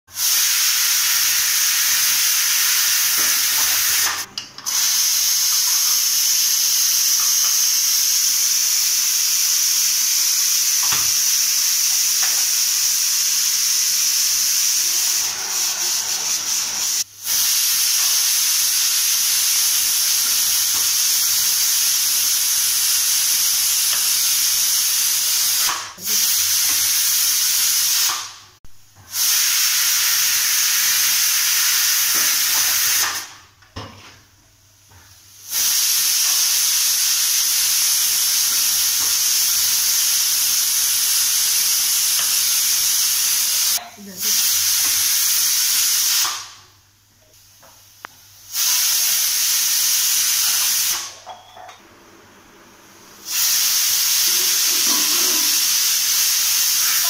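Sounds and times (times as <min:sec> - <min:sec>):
pressure cooker hissing steam: 0:00.1 - 0:28.4, 0:29.1 - 0:33.4, 0:35.2 - 0:46.6, 0:48.4 - 0:51.4, 0:53.0 - 0:57.0.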